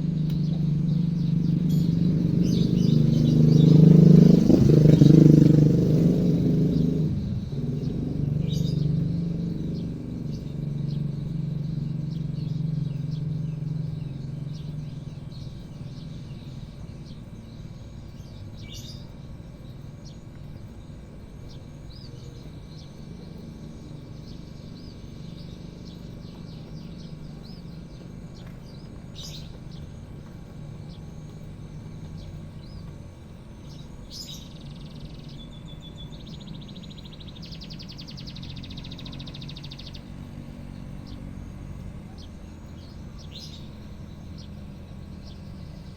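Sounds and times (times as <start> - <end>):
bird singing chirps and whistles: 0.0 - 19.1, 21.5 - 30.0, 33.6 - 45.9.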